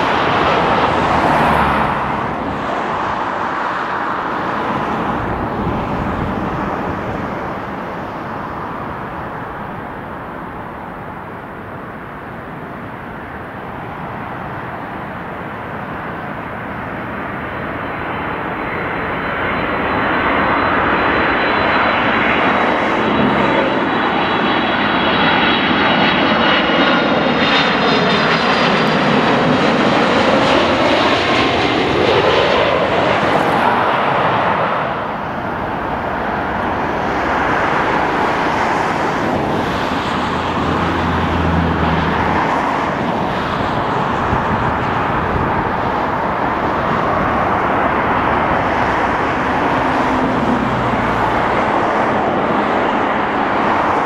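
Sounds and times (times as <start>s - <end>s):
jet airliner passing overhead: 0.0s - 54.0s
steady jet noise: 0.0s - 54.0s.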